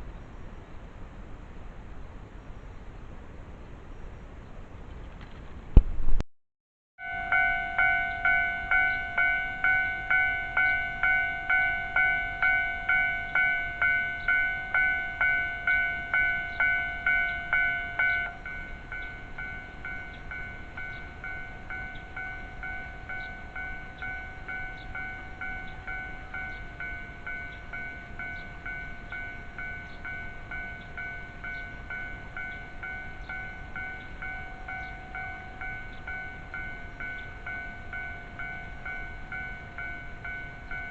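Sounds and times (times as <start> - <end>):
level crossing alarm ringing: 7.0 - 40.9.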